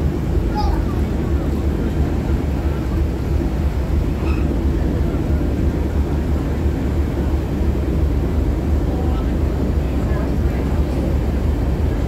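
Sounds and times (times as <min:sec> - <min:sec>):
boat engine rumbling: 0:00.0 - 0:12.0
water churning around hull: 0:00.0 - 0:12.0.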